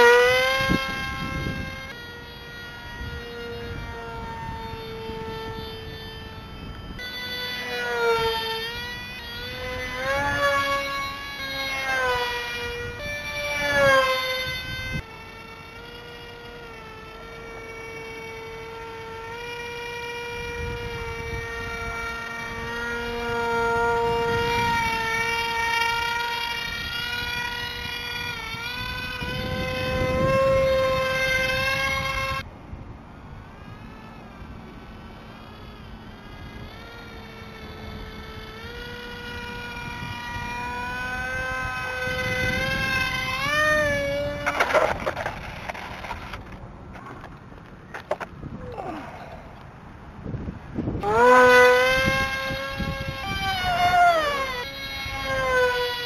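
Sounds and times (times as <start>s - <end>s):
model jet electric motor whining: 0.0s - 56.0s.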